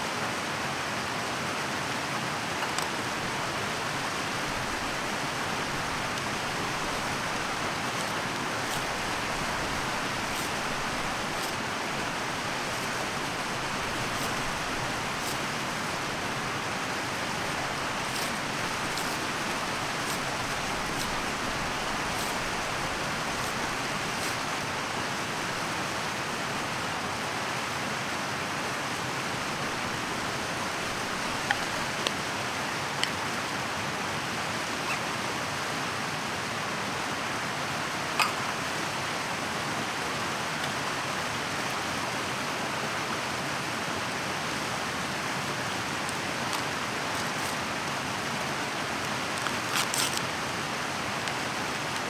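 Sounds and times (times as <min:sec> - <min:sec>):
mountain stream rushing: 0:00.0 - 0:52.0.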